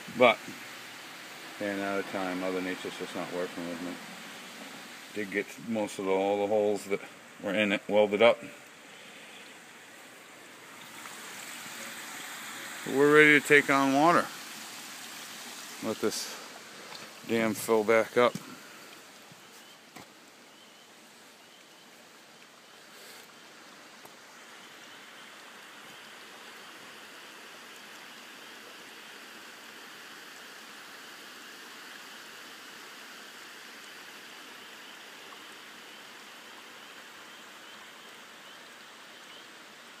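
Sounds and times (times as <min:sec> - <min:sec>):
running water hiss: 0:00.0 - 0:40.0.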